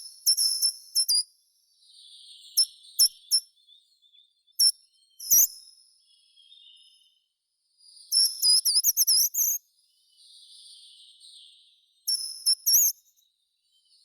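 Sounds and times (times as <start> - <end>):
songbirds whistling: 0.0 - 7.3, 8.0 - 14.0.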